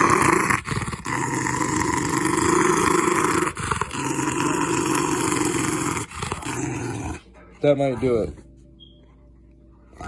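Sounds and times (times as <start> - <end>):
dog growling: 0.0 - 8.4.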